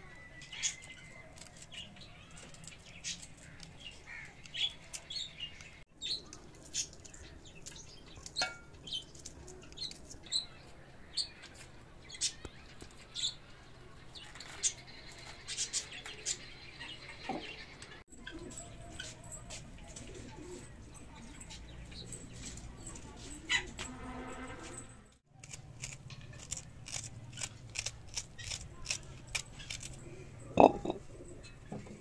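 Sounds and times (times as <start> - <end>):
small birds chirping: 0.0 - 23.7, 25.4 - 32.0.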